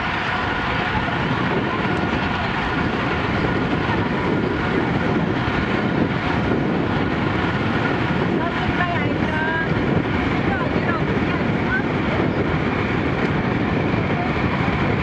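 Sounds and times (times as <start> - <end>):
tyre and road noise: 0.0 - 15.0
wind rush on microphone: 0.0 - 15.0.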